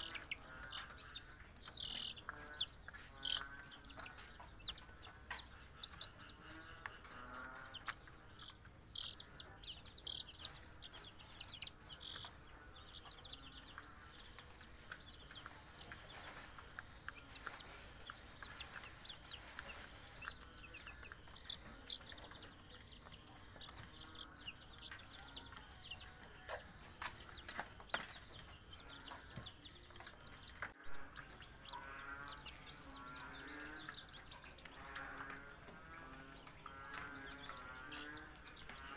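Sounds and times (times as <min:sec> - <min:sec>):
chicks peeping and chirping: 0:00.0 - 0:38.9.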